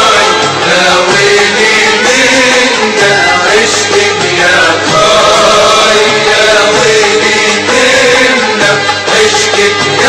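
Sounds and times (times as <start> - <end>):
male chorus chanting in unison: 0.0 - 10.0
oud and ensemble accompaniment: 0.0 - 10.0.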